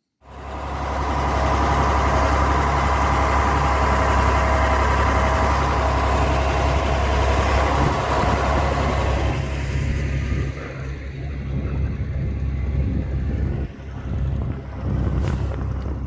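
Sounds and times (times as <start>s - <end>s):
tractor diesel engine running: 0.2s - 16.0s.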